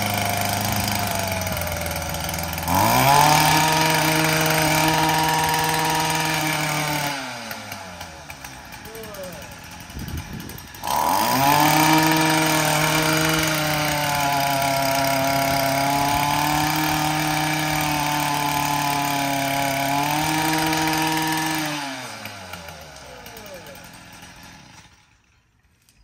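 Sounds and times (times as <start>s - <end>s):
string trimmer engine revving: 0.0s - 25.6s.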